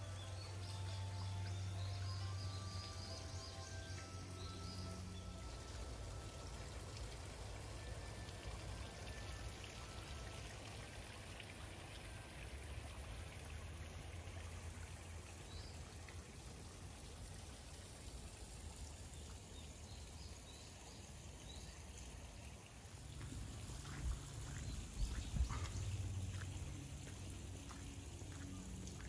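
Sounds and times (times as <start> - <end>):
pond water trickling: 0.0 - 29.0.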